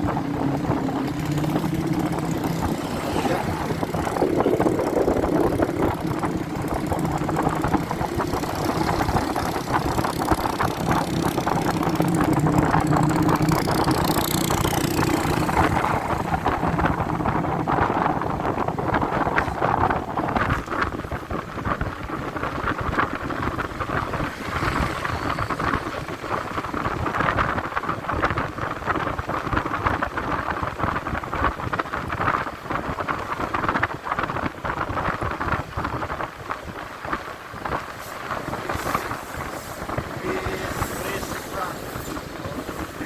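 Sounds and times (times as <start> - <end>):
motorcycle engine running: 0.0 - 43.0
wind buffeting microphone: 0.0 - 43.0.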